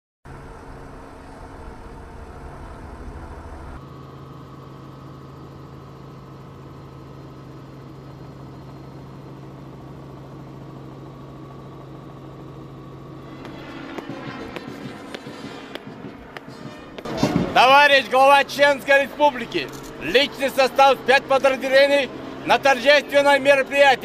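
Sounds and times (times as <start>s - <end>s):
engine idling: 0.3s - 24.0s.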